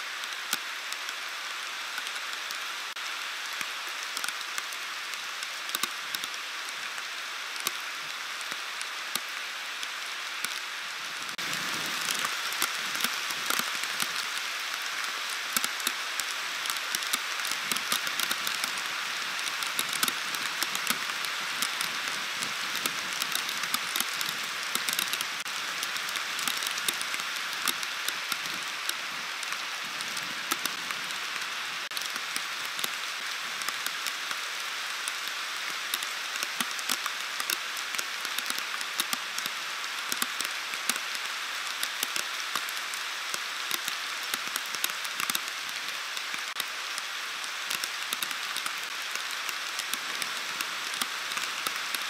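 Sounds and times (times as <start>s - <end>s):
heavy rain hissing: 0.0s - 52.0s
raindrops ticking: 0.1s - 52.0s.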